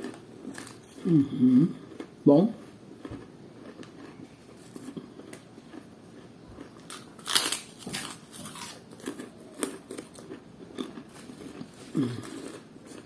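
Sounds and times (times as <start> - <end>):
crunchy chewing of fried snack: 0.0 - 13.0.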